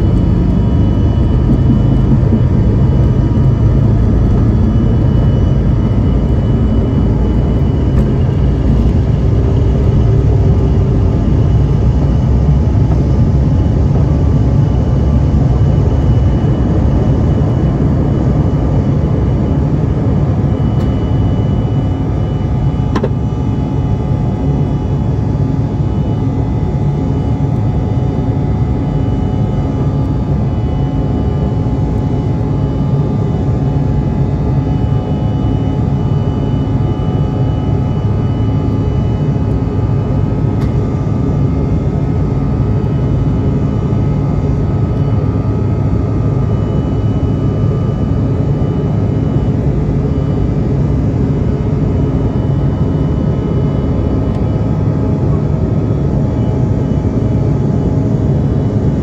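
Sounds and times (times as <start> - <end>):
jet engines low roar: 0.0 - 59.0.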